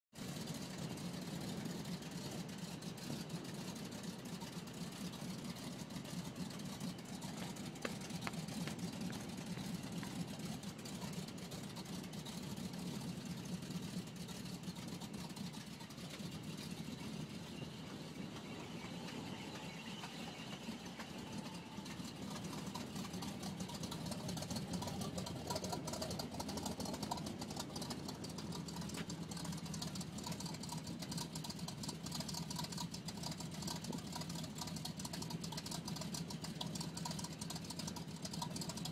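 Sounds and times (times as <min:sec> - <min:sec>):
truck engine idling: 0:00.1 - 0:38.9
exhaust manifold popping: 0:06.3 - 0:13.5, 0:14.3 - 0:38.9.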